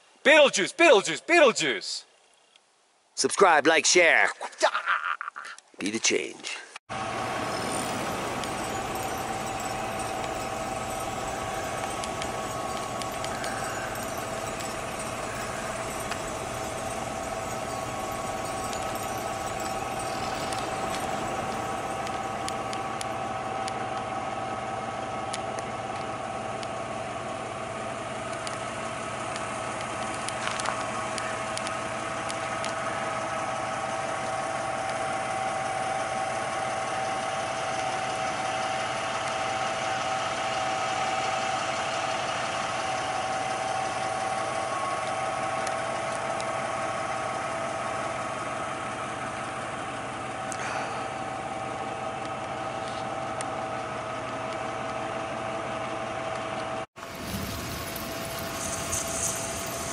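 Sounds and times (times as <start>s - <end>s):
steady mechanical hum: 6.0s - 59.9s.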